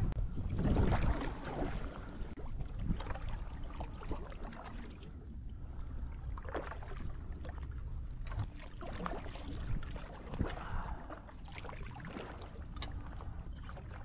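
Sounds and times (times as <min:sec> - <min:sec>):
steady low rumble: 0:00.0 - 0:14.0
kayak paddle splashing: 0:00.5 - 0:14.0.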